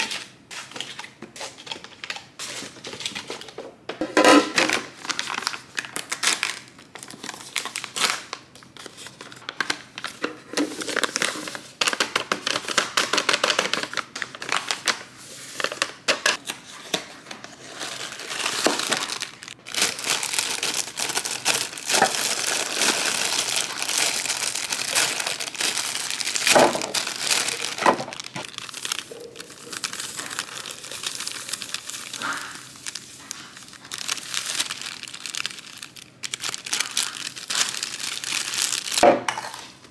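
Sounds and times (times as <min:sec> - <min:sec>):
packaging crinkling and rustling: 0:00.0 - 0:39.8.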